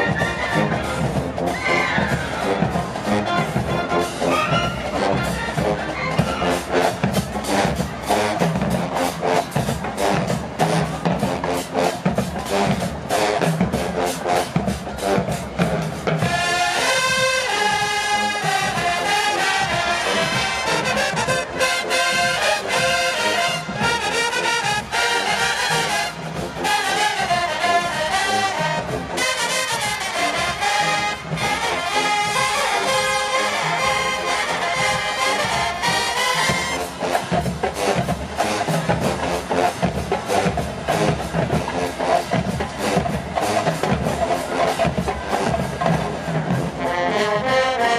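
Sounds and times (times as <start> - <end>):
brass section playing melody: 0.0 - 47.9
marching drumline: 0.0 - 47.9.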